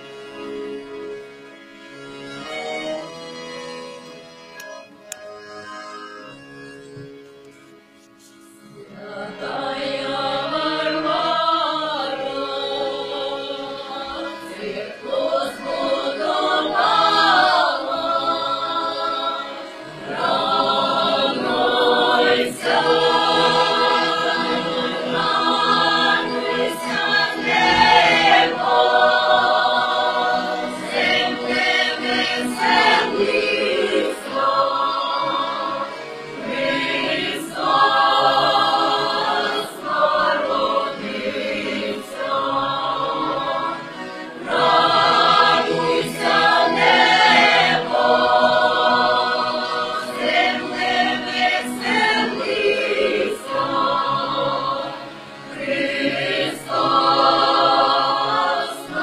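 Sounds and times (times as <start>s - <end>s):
folk choir singing: 8.6s - 59.0s.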